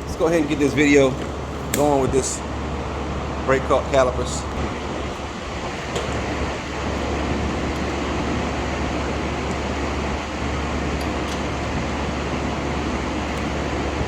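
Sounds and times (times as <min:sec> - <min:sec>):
steady rushing hum: 0:00.0 - 0:14.0.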